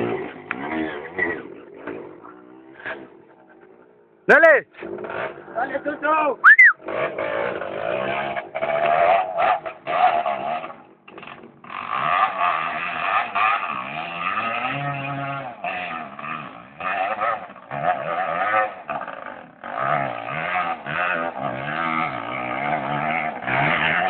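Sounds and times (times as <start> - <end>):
motorcycle engine revving: 0.0 - 6.0, 6.7 - 24.0.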